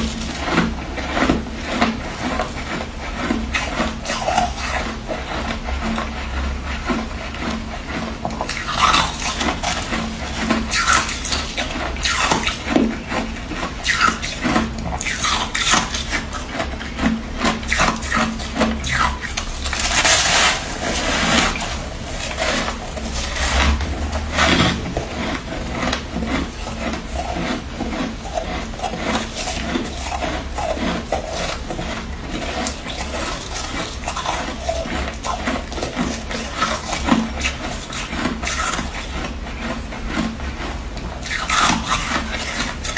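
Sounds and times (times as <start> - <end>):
frost being scraped and crunched: 0.0 - 42.9
steady low hum: 0.0 - 42.9.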